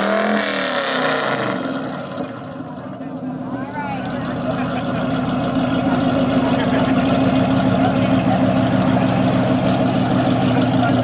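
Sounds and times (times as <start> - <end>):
loud car engine running: 0.0 - 11.0.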